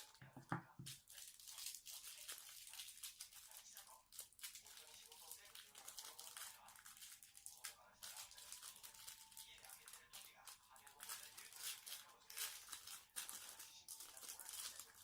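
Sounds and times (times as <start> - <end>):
plastic crinkling and clicking: 0.0 - 15.0.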